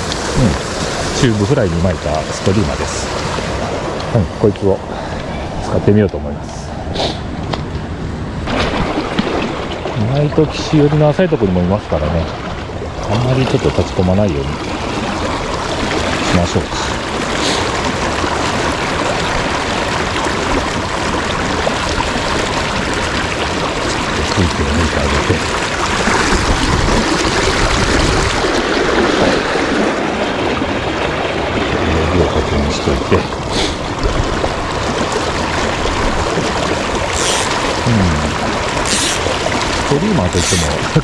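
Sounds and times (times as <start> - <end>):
fast river water rushing: 0.0 - 41.0.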